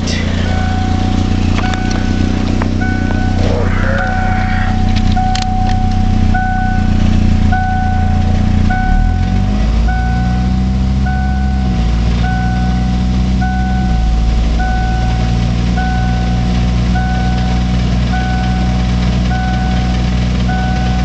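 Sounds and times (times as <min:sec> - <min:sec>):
two-tone warning chime beeping: 0:00.0 - 0:09.3, 0:09.9 - 0:21.0
car engine running in gear: 0:00.0 - 0:21.0.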